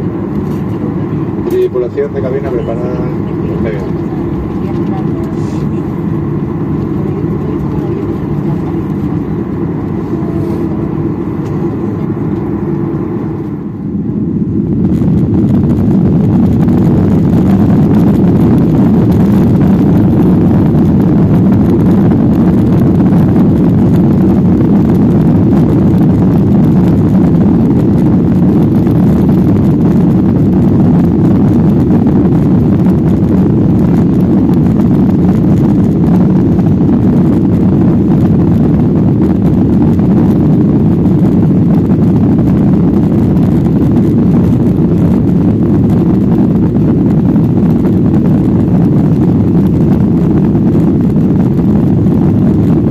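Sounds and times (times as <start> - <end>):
jet engine cabin rumble: 0.0 - 52.9.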